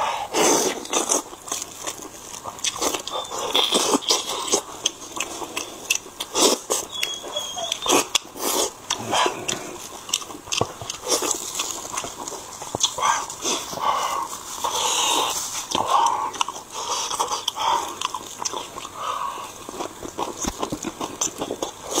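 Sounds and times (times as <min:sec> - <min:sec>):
wet chewing and lip-smacking: 0:00.4 - 0:22.0.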